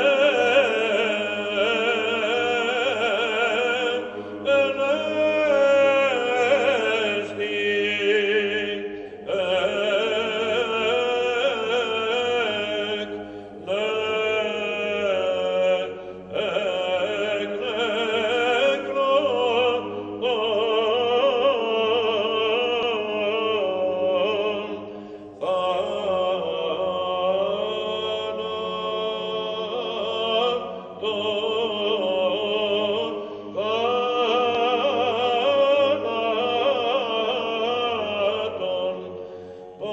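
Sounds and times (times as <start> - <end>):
held low vocal drone: 0.0 - 39.9
male choir chanting a hymn: 0.0 - 39.9.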